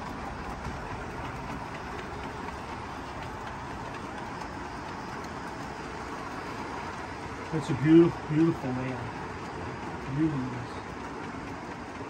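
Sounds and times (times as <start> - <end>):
model train rolling rumble: 0.0 - 12.0
wheels clicking over rails: 0.0 - 12.0.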